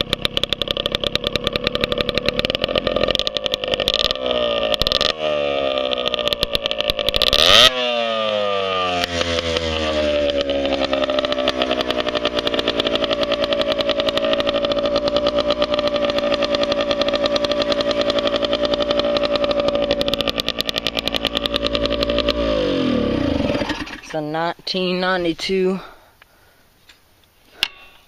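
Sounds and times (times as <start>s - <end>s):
two-stroke engine idling: 0.0s - 26.6s.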